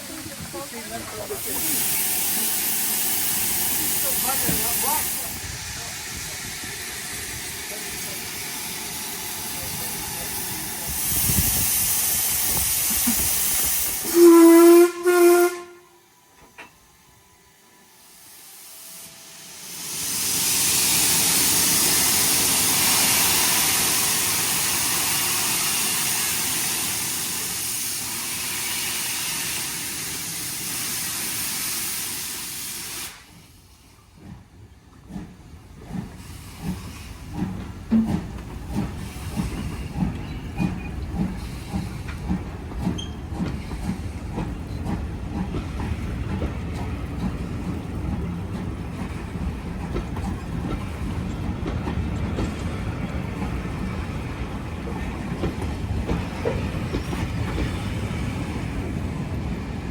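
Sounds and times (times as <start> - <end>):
steam hissing: 0.0 - 15.6, 17.9 - 34.2, 35.2 - 59.9
steam locomotive chuffing: 0.0 - 15.7, 17.9 - 59.9.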